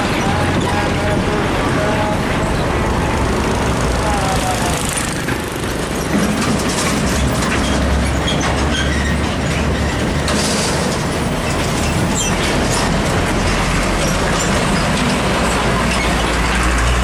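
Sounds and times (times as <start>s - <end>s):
empty trailer rattling and clanking: 0.0s - 17.0s
truck diesel rumble: 0.0s - 17.0s.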